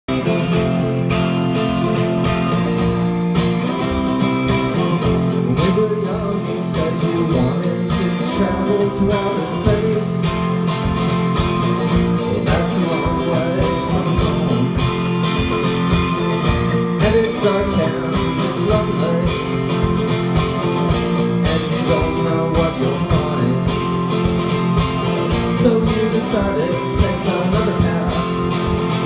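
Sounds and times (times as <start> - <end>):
electric guitar through amplifier: 0.0 - 29.0
drum kit steady beat: 0.1 - 29.0.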